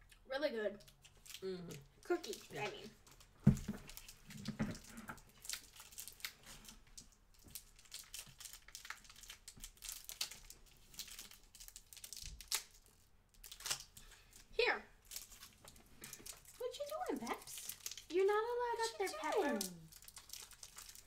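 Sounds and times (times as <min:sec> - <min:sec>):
candy wrapper crinkling: 0:00.8 - 0:21.0.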